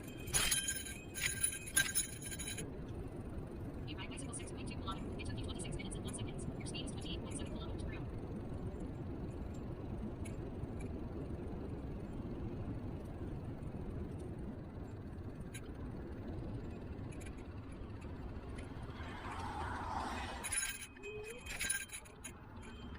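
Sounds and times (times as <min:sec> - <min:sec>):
wind and road noise: 0:00.0 - 0:22.9.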